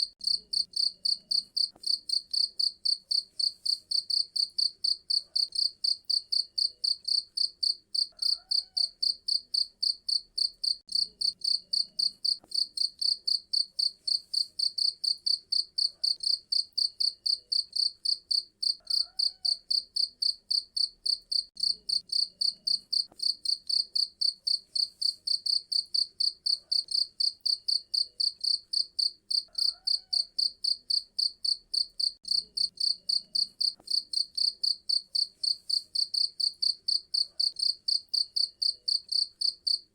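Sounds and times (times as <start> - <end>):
cricket chirping: 0.2 - 39.8.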